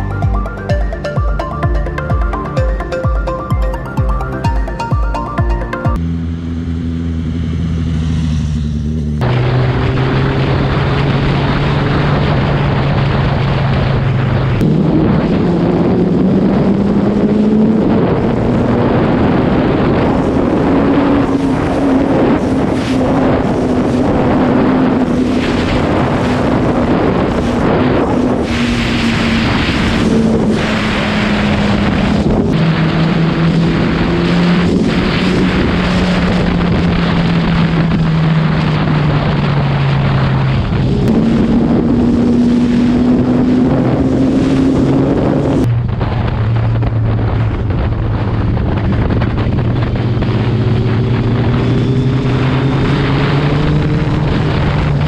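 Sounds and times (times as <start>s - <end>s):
motorcycle engine shifting gears: 0.0s - 55.0s
wind rushing on microphone: 9.2s - 55.0s.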